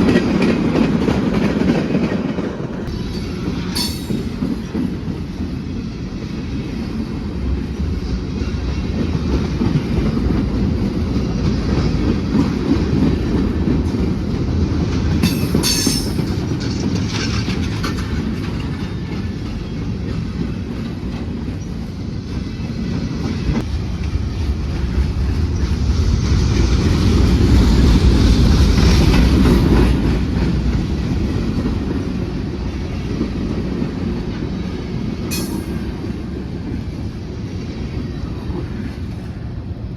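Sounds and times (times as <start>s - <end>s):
freight train wheels clattering: 0.0s - 39.4s.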